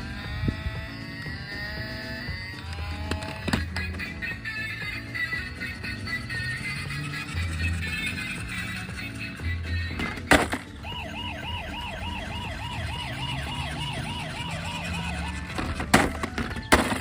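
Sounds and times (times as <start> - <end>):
toy siren wailing: 0.0 - 17.0.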